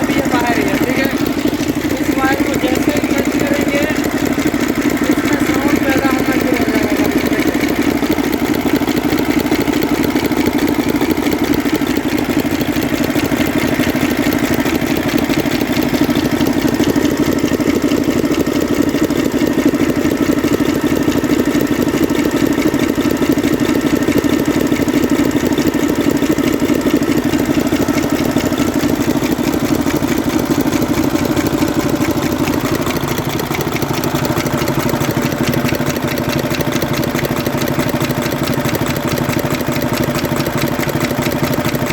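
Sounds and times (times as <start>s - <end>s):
diesel engine idling loudly: 0.0s - 41.9s
engine popping: 0.0s - 41.9s.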